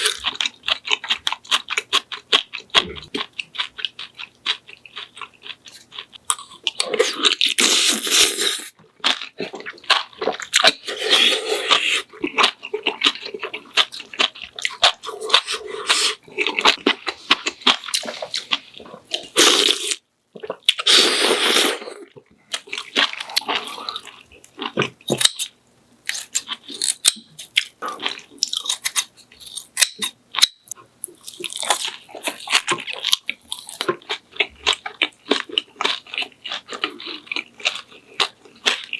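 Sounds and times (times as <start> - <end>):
person chewing with wet smacking: 0.0 - 25.4, 26.1 - 38.9.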